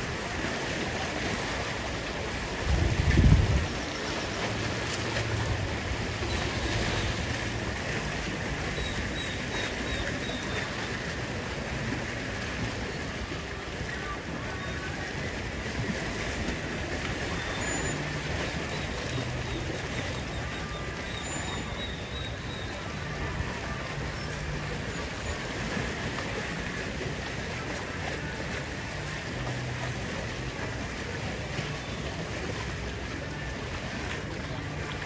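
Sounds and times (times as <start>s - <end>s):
sea water: 0.0s - 35.0s
wind: 0.0s - 35.0s.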